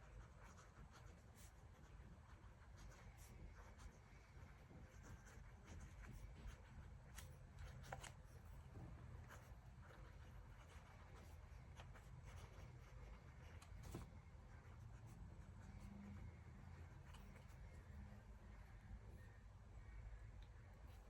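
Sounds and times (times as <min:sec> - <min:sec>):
pen scratching on paper: 0:00.0 - 0:17.9
low room hum: 0:00.0 - 0:21.0.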